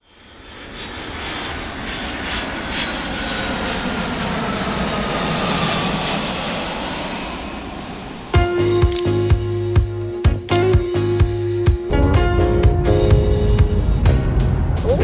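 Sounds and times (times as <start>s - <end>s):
airplane engine noise: 0.0s - 15.0s.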